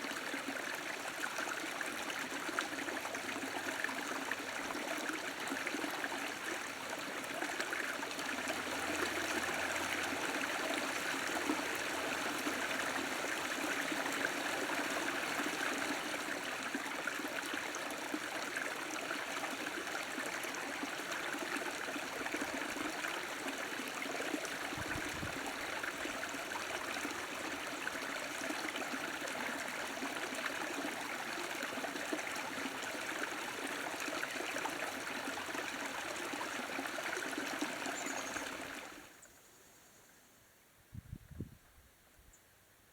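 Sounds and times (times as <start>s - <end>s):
stream flowing water: 0.0s - 39.3s.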